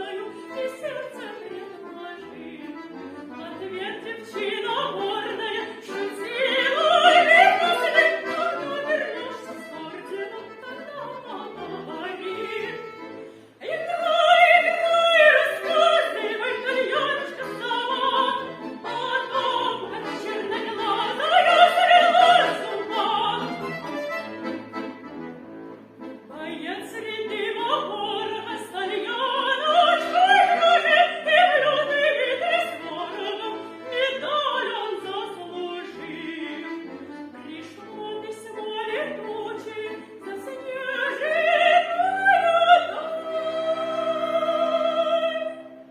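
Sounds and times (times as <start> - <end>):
instrumental accompaniment: 0.0 - 45.9.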